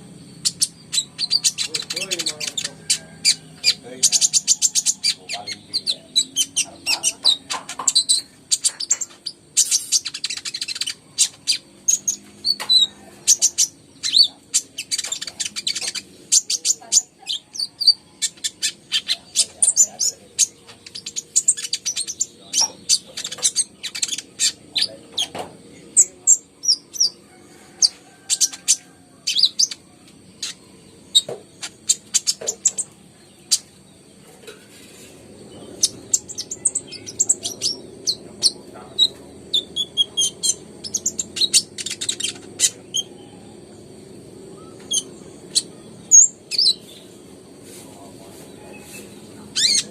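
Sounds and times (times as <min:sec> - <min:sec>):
sunbird chirps and trills: 0:00.0 - 0:49.9.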